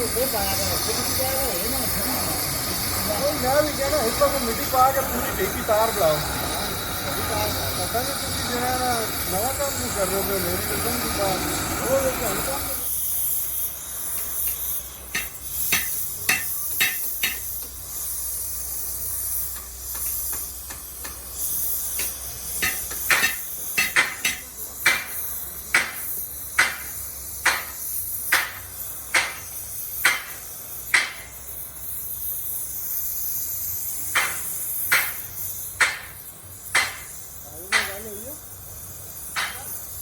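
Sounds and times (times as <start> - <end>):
steady high hiss: 0.0 - 40.0.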